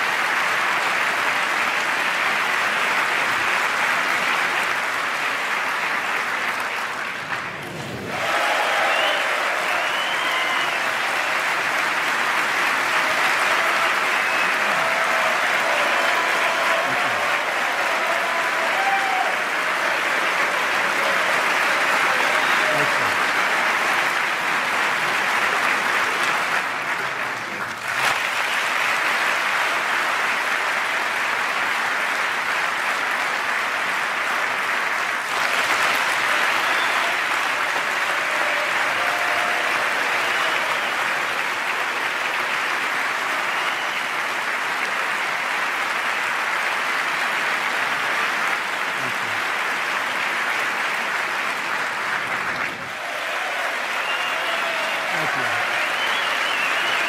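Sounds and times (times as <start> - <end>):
crowd applauding: 0.0 - 57.0.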